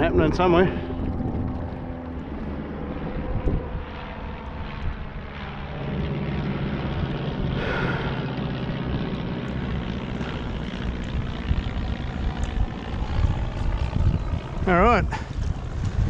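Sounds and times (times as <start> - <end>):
propeller planes droning: 0.0 - 16.0.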